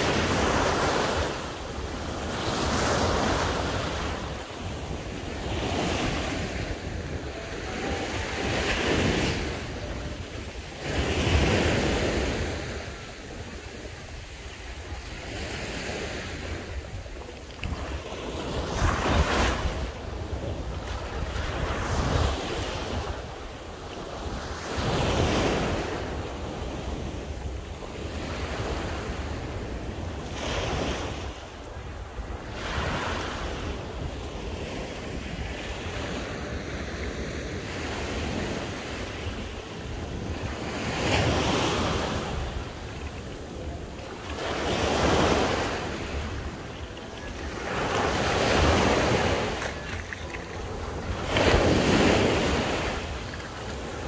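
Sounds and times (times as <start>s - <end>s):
sea waves washing onto beach: 0.0s - 54.0s
wind rumbling on microphone: 0.0s - 54.0s.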